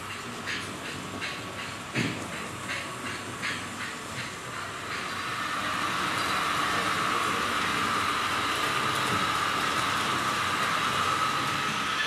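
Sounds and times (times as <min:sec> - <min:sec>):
model train whirring on track: 0:00.0 - 0:12.0.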